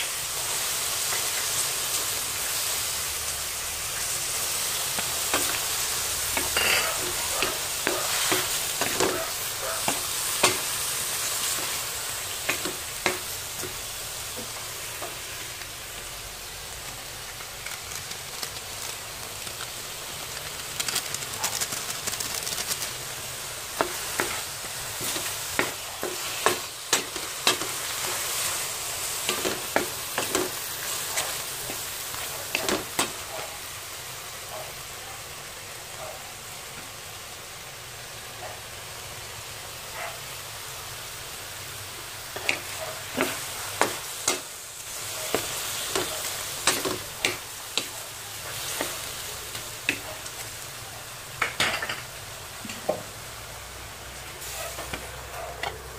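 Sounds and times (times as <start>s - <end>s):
food sizzling in a wok: 0.0s - 55.9s.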